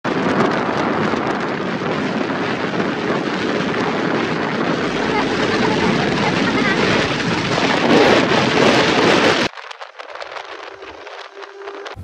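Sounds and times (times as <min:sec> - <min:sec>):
wind roaring over microphone: 0:00.0 - 0:12.0.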